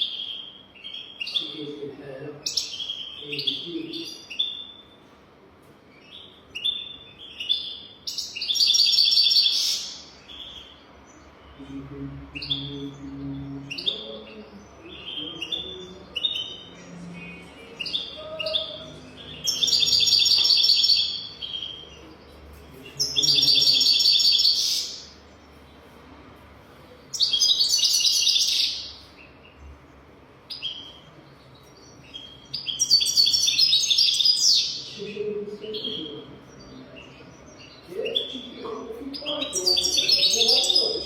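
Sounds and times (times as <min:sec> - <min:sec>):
bird chirping: 0:00.0 - 0:05.2, 0:05.9 - 0:26.2, 0:26.8 - 0:41.0.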